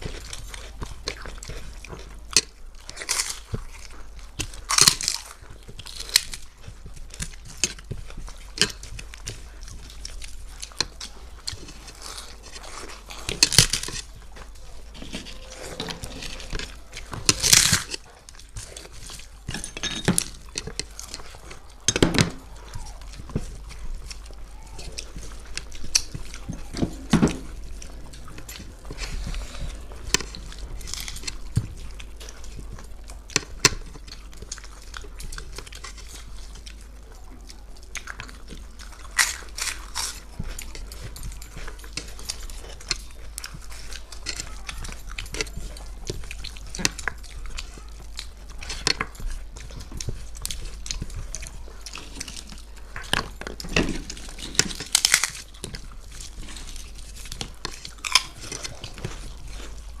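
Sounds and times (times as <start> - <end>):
people chewing food: 0.0 - 60.0.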